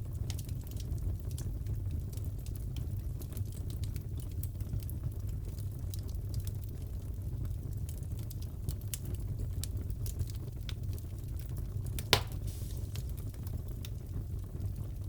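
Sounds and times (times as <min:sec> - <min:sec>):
fireplace crackling and popping: 0:00.0 - 0:15.0.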